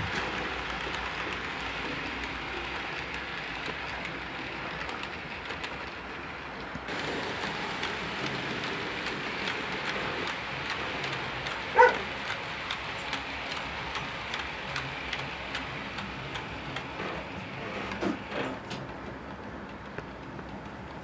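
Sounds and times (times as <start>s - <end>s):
model train wheels clicking: 0.0s - 21.0s
steady rumble of model train: 0.0s - 21.0s.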